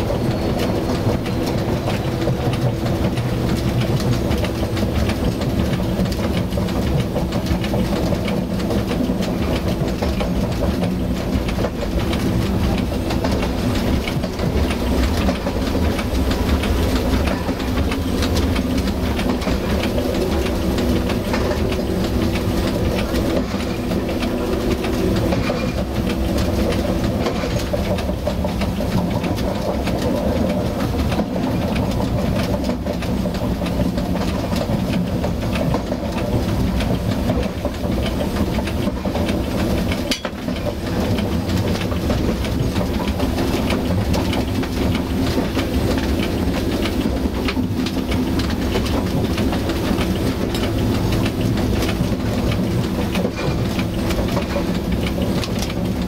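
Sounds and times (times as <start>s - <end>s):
faint rail clicks: 0.0s - 56.0s
railcar engine drone: 0.0s - 56.0s
wheels running on rails: 0.0s - 56.0s.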